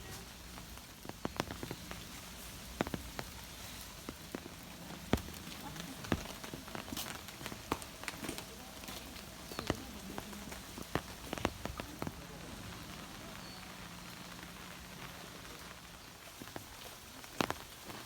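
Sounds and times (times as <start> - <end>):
steady rain: 0.0 - 18.0
drops ticking: 0.1 - 18.0.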